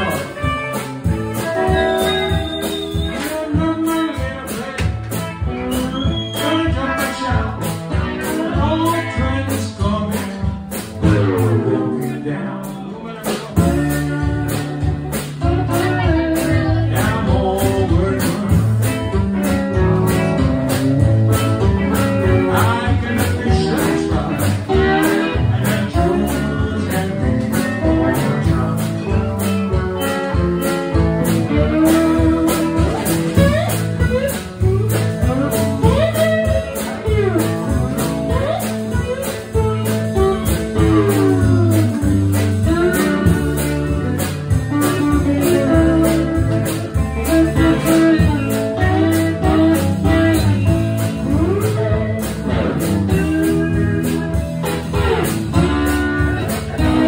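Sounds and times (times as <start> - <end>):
blues band playing: 0.0 - 57.0
person singing: 5.7 - 57.0.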